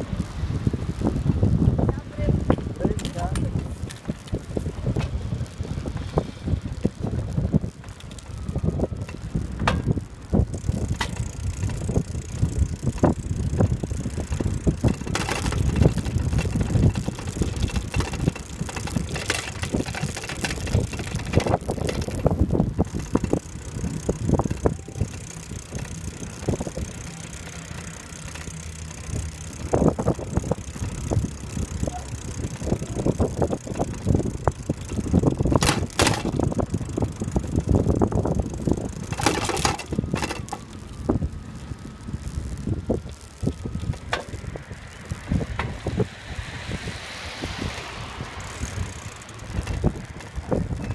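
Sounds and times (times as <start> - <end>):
bike fittings rattling: 0.0 - 46.1, 47.4 - 50.9
bicycle tyres rumbling on asphalt: 0.0 - 50.9.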